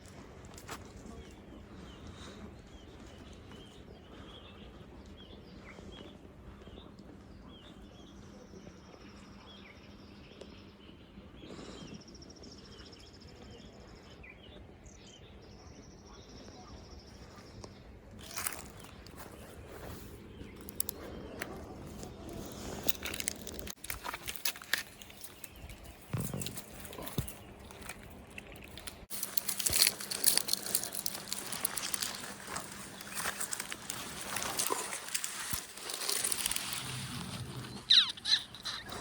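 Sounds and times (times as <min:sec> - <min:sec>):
small birds chirping: 0:00.8 - 0:39.0.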